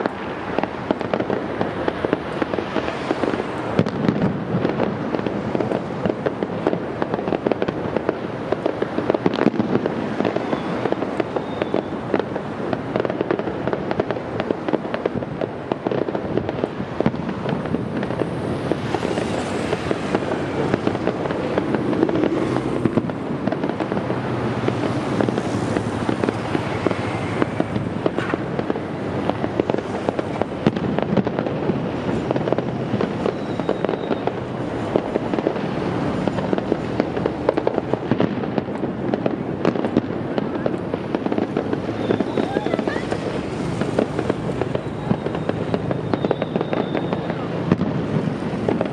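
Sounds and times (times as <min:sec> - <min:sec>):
firework whistles: 0:00.0 - 0:48.9
fireworks bangs and crackling: 0:00.0 - 0:48.9.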